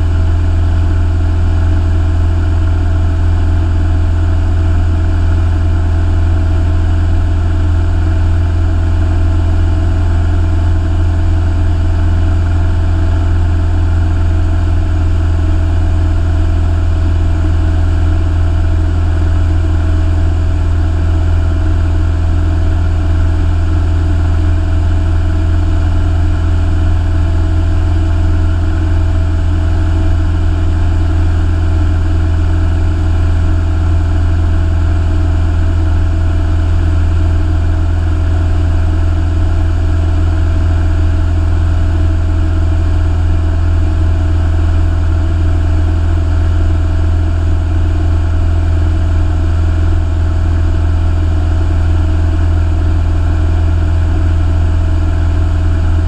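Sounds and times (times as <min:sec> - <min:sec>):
light aircraft engine in flight: 0:00.0 - 0:56.0.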